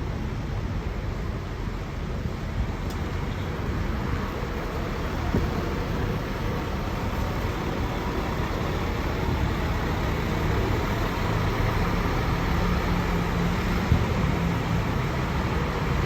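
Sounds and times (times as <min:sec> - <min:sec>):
bus diesel engine running: 0:00.0 - 0:16.0
road and traffic noise: 0:00.0 - 0:16.0.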